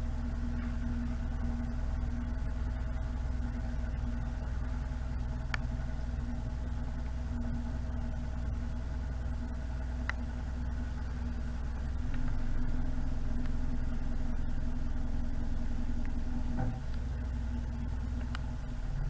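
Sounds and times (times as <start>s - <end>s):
boat diesel engine running: 0.0s - 19.0s.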